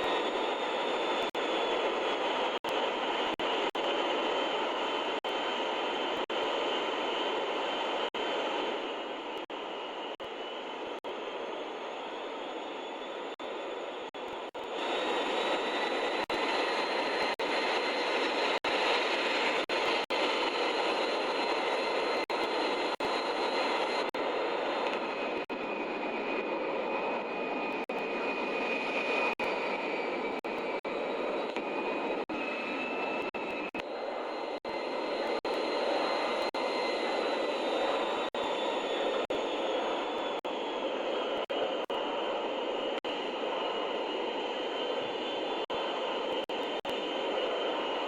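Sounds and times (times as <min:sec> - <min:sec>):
faint high whining tones: 0:00.0 - 0:48.0
jet engines droning: 0:00.0 - 0:48.0.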